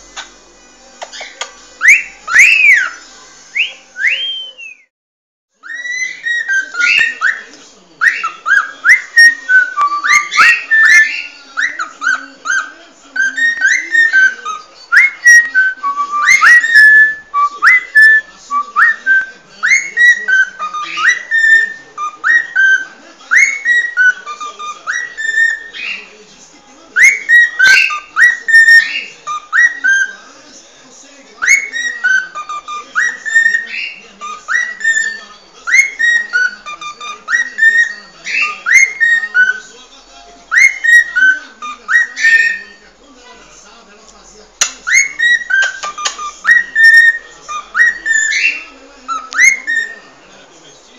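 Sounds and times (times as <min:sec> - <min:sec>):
cockatiel whistling: 0:01.1 - 0:03.0, 0:03.6 - 0:04.9, 0:05.6 - 0:26.1, 0:27.0 - 0:30.3, 0:31.4 - 0:39.8, 0:40.5 - 0:42.8, 0:44.6 - 0:50.1.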